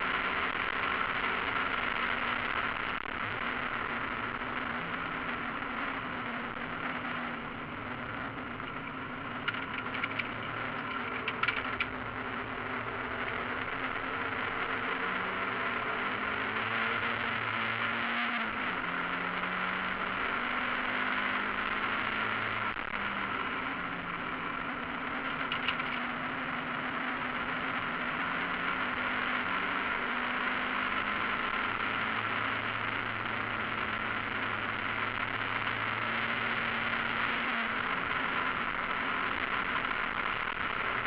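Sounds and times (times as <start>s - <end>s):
race car engine running hard: 0.0s - 41.0s
wind and road noise: 0.0s - 41.0s.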